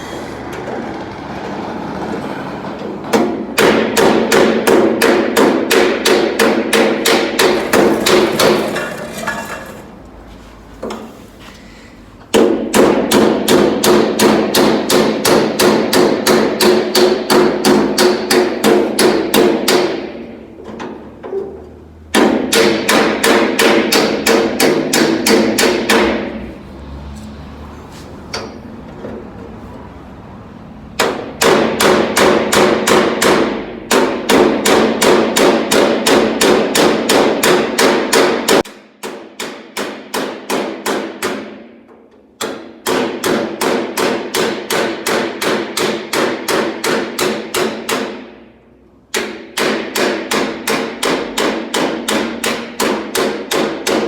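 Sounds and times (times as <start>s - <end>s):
hammer striking sheet steel: 2.7s - 10.0s, 12.3s - 21.5s, 22.1s - 26.6s, 28.3s - 28.7s, 31.0s - 48.5s, 49.1s - 54.0s.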